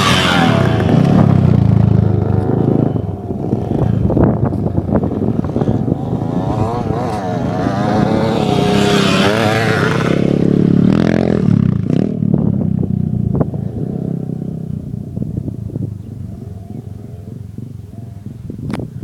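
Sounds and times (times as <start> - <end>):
dirt bike engine revving: 0.0 - 15.3.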